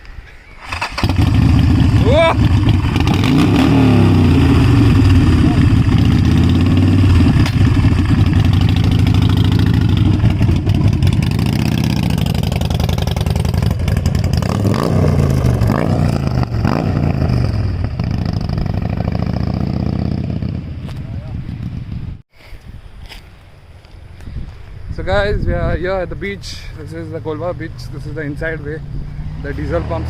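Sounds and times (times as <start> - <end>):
motorcycle engine revving: 0.6 - 22.2, 26.9 - 30.0.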